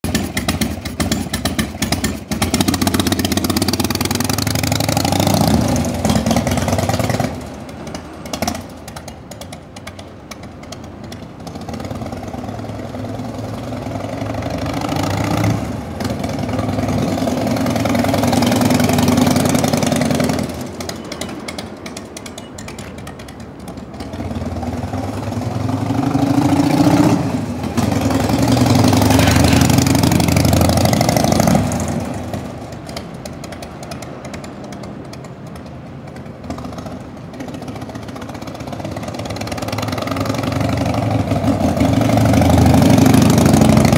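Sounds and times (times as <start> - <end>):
v-twin motorcycle engine running: 0.0 - 43.9.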